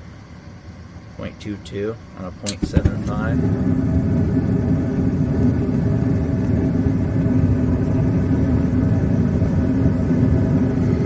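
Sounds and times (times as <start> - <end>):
gas furnace hum and rumble: 0.0 - 11.0.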